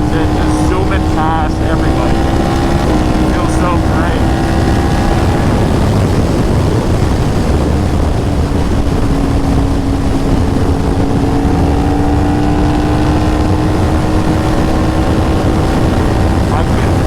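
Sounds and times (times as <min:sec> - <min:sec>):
motorcycle engine running: 0:00.0 - 0:17.0
wind rush on microphone: 0:00.0 - 0:17.0.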